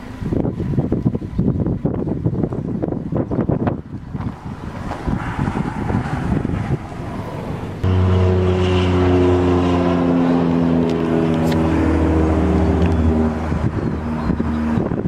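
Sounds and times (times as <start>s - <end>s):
wind buffeting microphone: 0.0s - 15.0s
vehicle engine passing: 2.7s - 15.0s.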